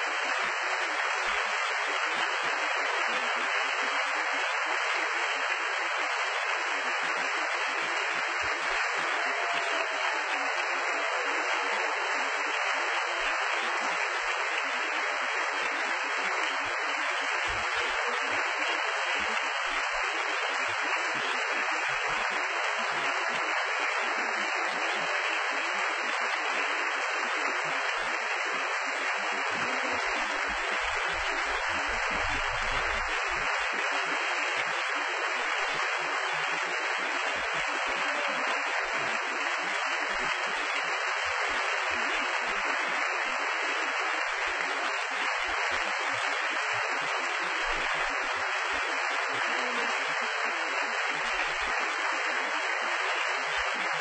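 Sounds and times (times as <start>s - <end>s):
audience applauding: 0.0s - 54.0s.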